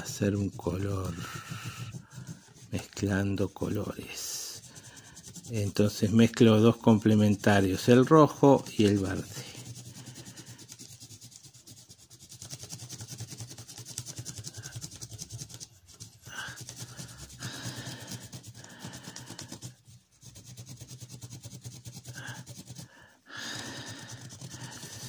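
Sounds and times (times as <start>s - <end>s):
pencil scratching on paper: 0.0s - 25.0s.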